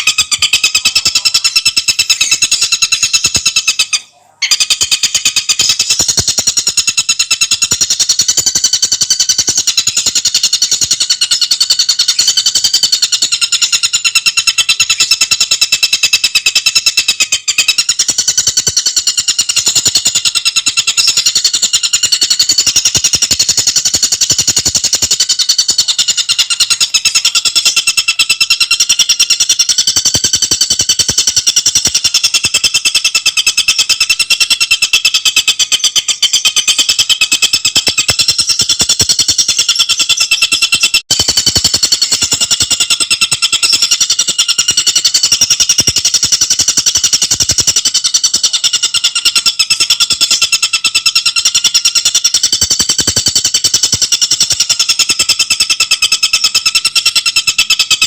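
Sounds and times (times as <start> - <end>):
bird chattering call: 0.0 - 58.0.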